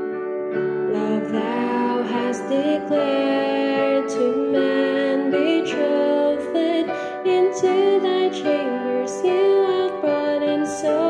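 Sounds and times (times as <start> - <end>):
song with singing voice: 0.0 - 11.0.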